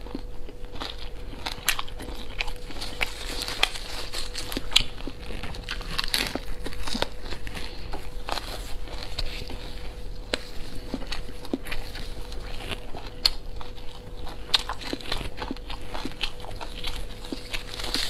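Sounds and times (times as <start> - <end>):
leaf crinkling: 0.0 - 18.0
person chewing: 0.0 - 18.0.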